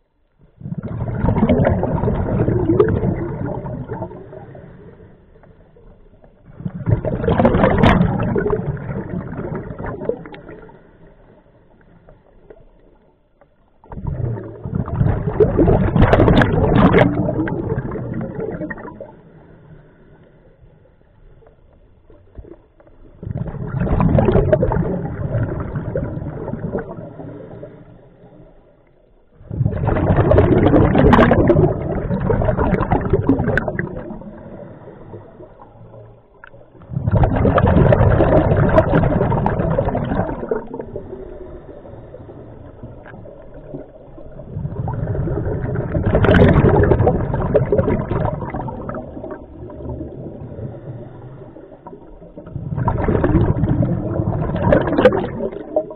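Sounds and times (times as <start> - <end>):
bubbles gurgling underwater: 0.0 - 19.5, 20.9 - 55.9.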